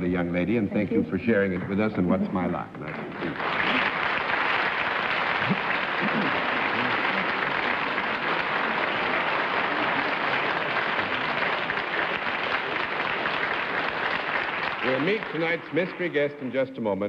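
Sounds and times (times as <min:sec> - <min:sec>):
audience applauding: 0:02.7 - 0:16.9.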